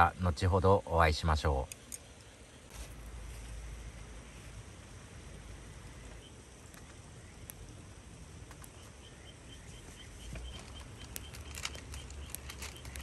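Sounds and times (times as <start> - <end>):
campfire crackling: 1.6 - 13.0.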